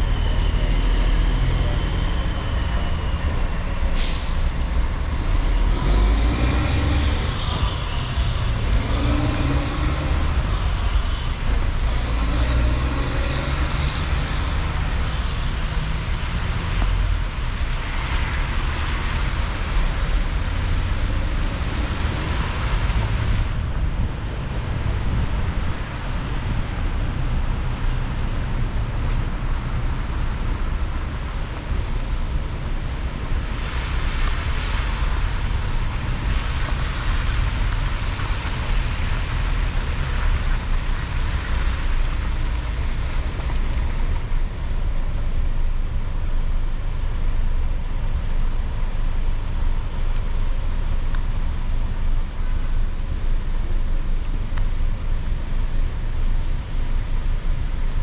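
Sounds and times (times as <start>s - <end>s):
tyres hissing on wet road: 0.0s - 24.0s, 24.6s - 58.0s
road and engine rumble: 0.0s - 58.0s.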